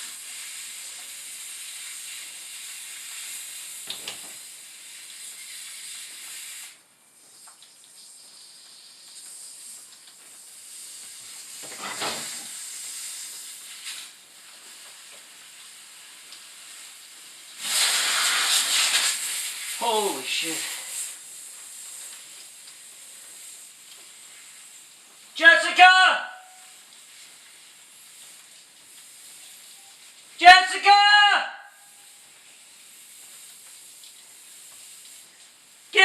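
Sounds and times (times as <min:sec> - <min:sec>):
pressurised water hissing: 0:00.0 - 0:25.5, 0:26.4 - 0:30.4, 0:31.8 - 0:36.0.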